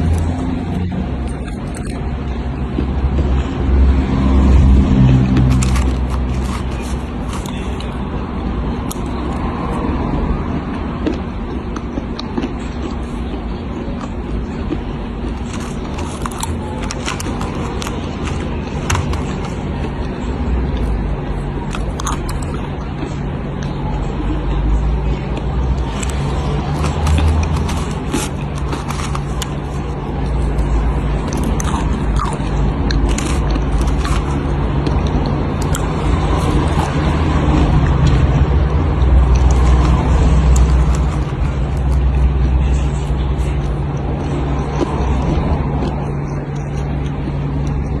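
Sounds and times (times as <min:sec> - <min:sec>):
crunchy food being chewed: 0:00.0 - 0:48.0
steady low hum: 0:00.0 - 0:48.0.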